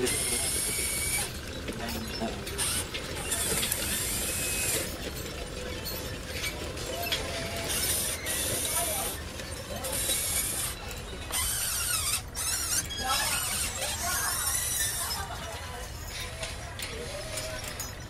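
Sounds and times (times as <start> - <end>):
model excavator motors whirring: 0.0 - 18.0.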